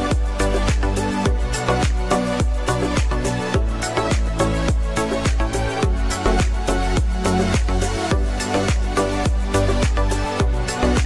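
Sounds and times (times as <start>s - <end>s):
music with fast beat and deep bass: 0.0s - 11.0s.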